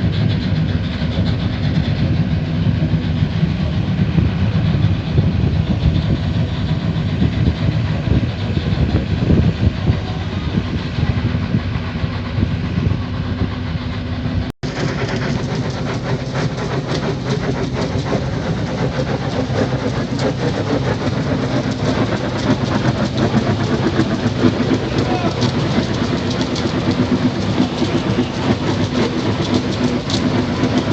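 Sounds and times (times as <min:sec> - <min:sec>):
gas jetting roar: 0:00.0 - 0:30.9.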